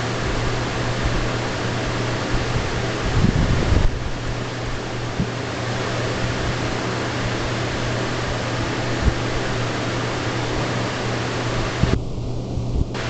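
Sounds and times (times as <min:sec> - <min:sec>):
steady hiss: 0:00.0 - 0:12.0, 0:12.8 - 0:13.0
low hum: 0:00.0 - 0:13.0.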